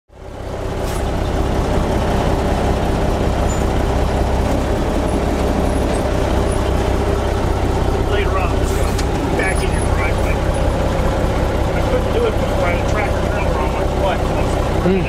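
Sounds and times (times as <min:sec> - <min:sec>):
truck engine drone: 0:00.1 - 0:15.0.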